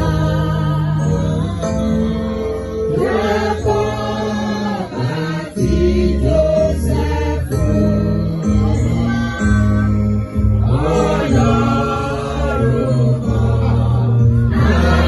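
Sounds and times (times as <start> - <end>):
choir singing: 0.0 - 10.0, 10.6 - 15.0
instrumental accompaniment: 0.0 - 15.0
steady bass line: 0.0 - 15.0.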